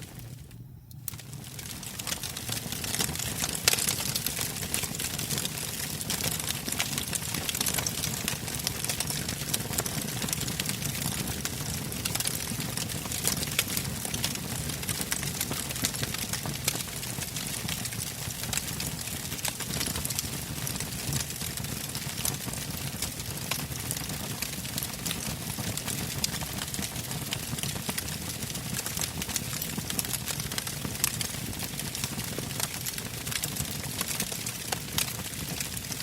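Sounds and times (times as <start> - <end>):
campfire logs crackling: 0.0 - 36.0.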